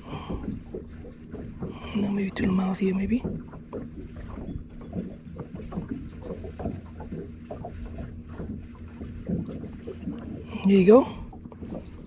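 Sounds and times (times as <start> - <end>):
low steady hum: 0.0 - 12.0
water lapping against boat hull: 0.0 - 12.0.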